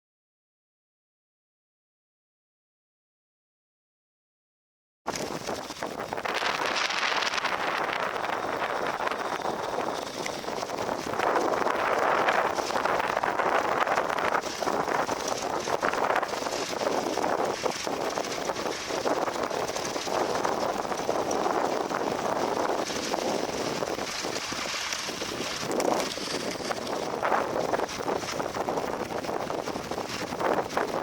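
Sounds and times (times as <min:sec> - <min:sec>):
tractor engines running: 0:05.1 - 0:31.0
wind buffeting microphone: 0:05.1 - 0:31.0.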